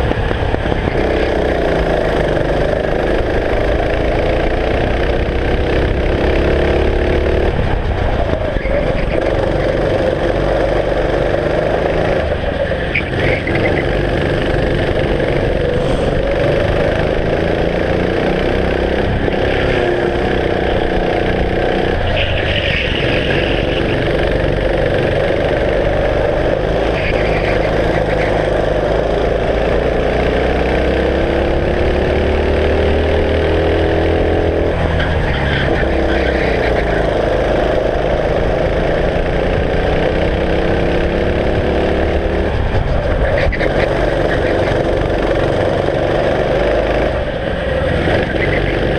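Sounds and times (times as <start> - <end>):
kart engine racing: 0.0 - 48.9.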